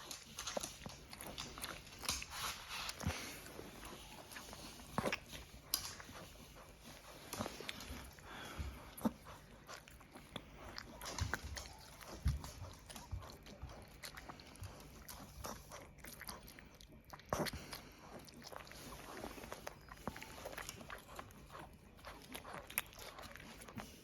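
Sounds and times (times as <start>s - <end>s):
dog chewing and swallowing: 0.0s - 24.0s.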